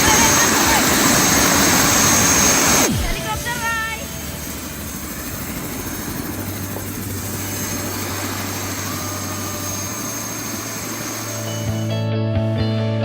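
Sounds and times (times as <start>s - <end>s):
helicopter engine and rotor: 0.0s - 12.1s.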